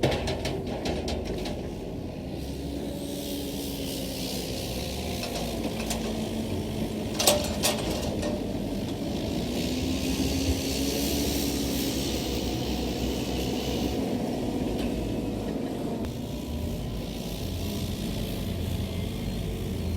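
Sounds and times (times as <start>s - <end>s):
engine running steadily: 0.0s - 19.9s.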